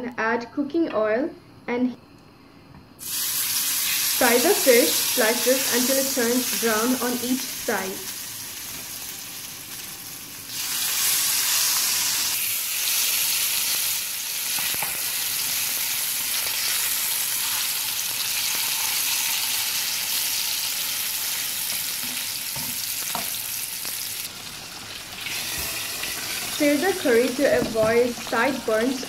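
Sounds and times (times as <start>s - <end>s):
fish sizzling in hot oil: 3.0s - 29.0s.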